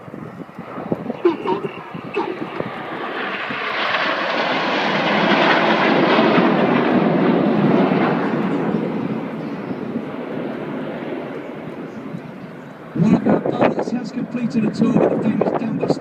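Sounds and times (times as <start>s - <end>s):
jets flying past: 0.0s - 16.0s.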